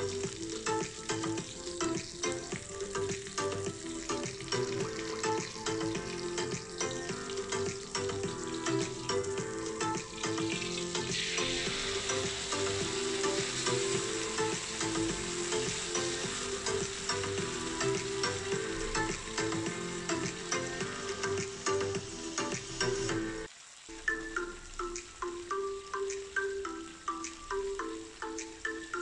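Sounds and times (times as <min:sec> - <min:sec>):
oil sizzling in a wok: 0:00.0 - 0:29.0
paste frying with crackles: 0:00.0 - 0:29.0.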